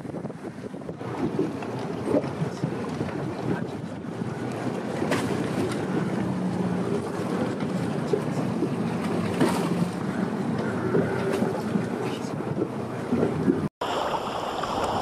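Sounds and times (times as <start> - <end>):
water rushing past boat: 0.0 - 15.0
wind buffeting microphone: 0.0 - 15.0.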